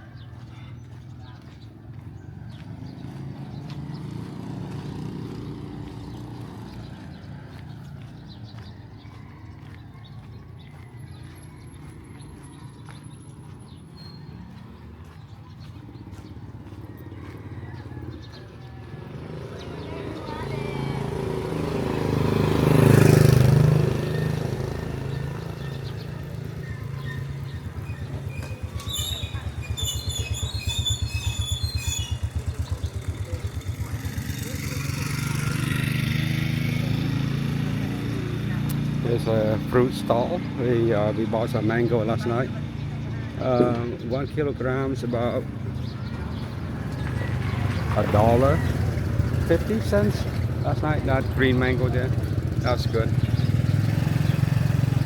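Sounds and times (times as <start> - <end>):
vehicle engine rumble passing: 0.4 - 55.0.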